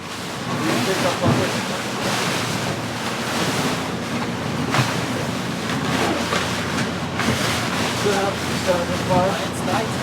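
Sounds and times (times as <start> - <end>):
water rushing along hull: 0.0 - 10.0.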